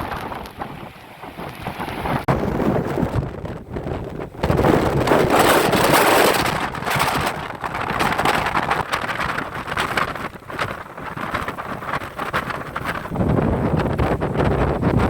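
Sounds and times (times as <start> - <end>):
rough sea surf: 0.0 - 15.0
wind buffeting microphone: 0.0 - 15.0.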